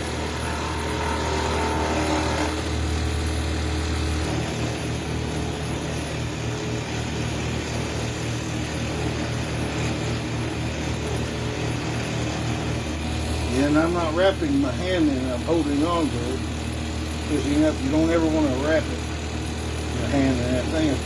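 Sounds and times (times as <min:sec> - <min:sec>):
cloth buffing spinning wood: 0:00.0 - 0:21.0
wood lathe motor humming: 0:00.0 - 0:21.0.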